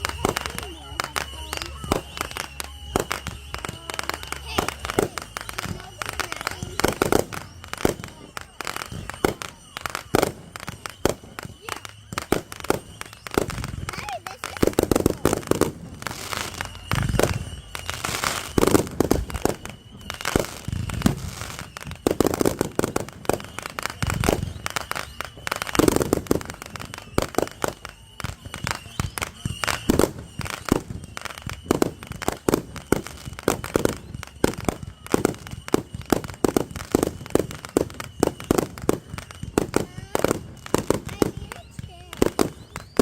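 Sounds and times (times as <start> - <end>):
fireworks booms: 0.0 - 43.0
fireworks cracking and popping: 0.0 - 43.0.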